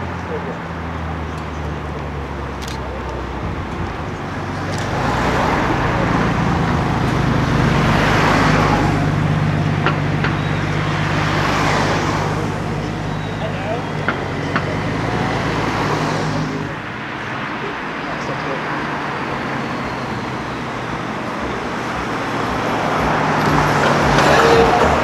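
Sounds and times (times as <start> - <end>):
street traffic noise: 0.0 - 25.0.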